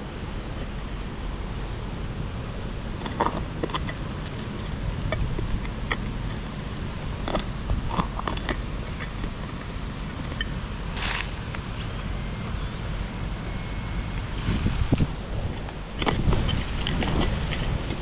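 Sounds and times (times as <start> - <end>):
wind buffeting microphone: 2.4 - 18.0.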